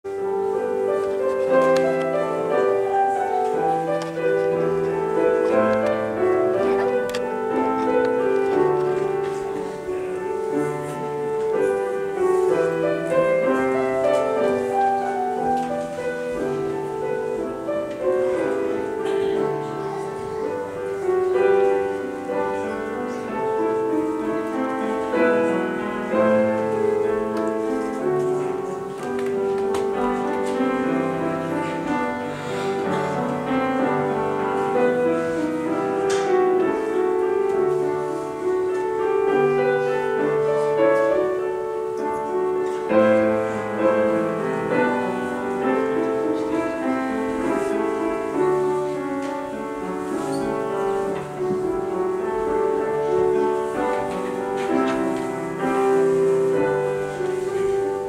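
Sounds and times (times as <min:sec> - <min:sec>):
slow keyboard music: 0:00.0 - 0:58.0.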